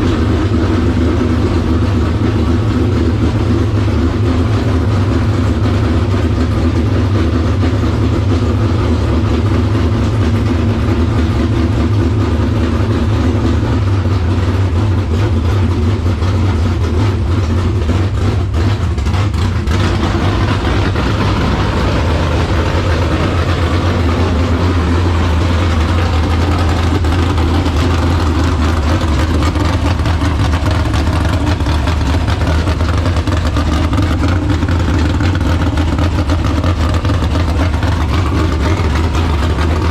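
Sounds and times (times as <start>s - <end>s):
race car engine idling: 0.0s - 39.9s.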